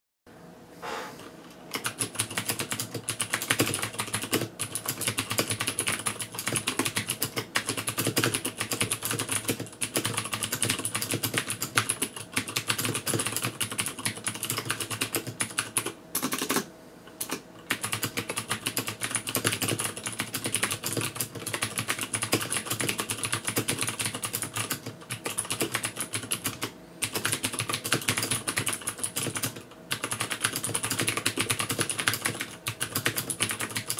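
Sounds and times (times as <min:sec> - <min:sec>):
fast typing on mechanical keyboard: 0:01.7 - 0:33.9.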